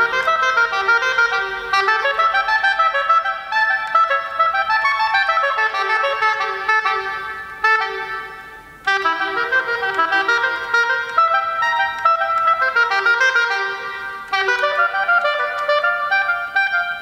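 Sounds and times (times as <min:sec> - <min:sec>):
solo oboe melody: 0:00.0 - 0:17.0.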